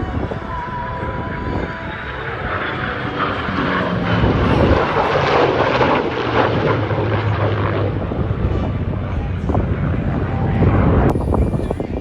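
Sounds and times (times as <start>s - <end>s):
jet fighter flying past: 0.0s - 12.0s.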